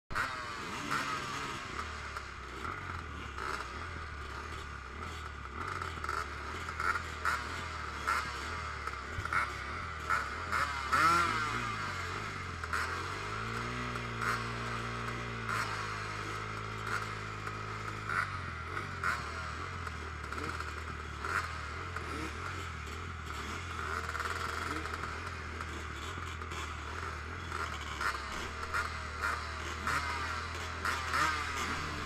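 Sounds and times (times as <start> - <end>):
motocross bike engine idling and revving: 0.1 - 32.0.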